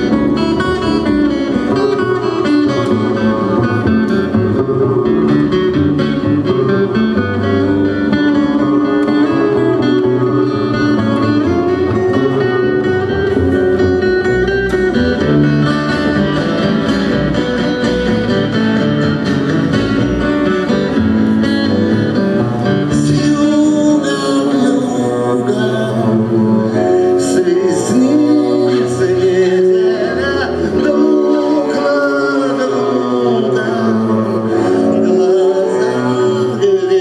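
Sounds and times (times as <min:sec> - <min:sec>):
acoustic guitar music: 0:00.0 - 0:37.0.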